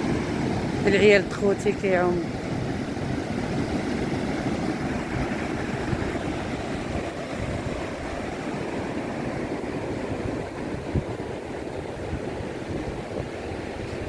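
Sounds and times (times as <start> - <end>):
sea surf: 0.0 - 14.0
wind rumbling on microphone: 0.0 - 14.0.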